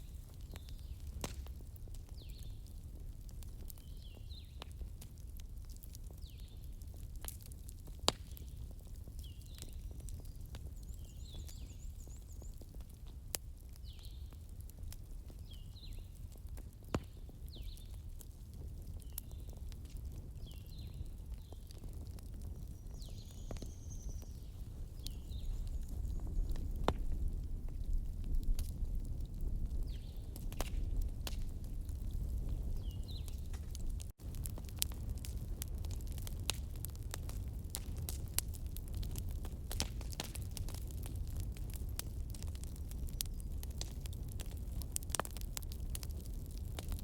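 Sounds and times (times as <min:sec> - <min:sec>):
bonfire crackling: 0:00.0 - 0:47.0.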